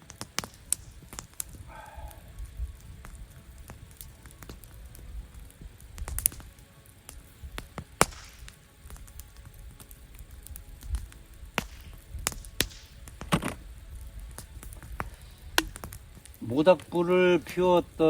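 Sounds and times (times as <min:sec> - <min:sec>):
campfire crackling: 0:00.0 - 0:18.0
sharp fire pops: 0:00.0 - 0:18.0.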